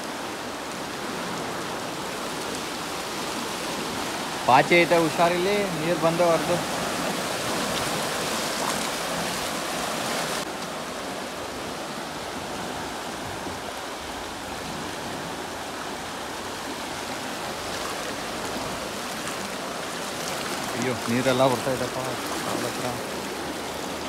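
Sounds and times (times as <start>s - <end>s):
turbulent water rushing: 0.0s - 24.0s.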